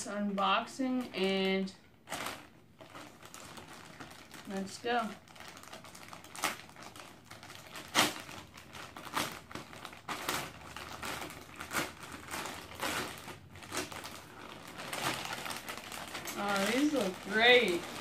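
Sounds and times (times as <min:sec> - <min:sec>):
plastic mailer bag tearing: 0:01.0 - 0:18.0.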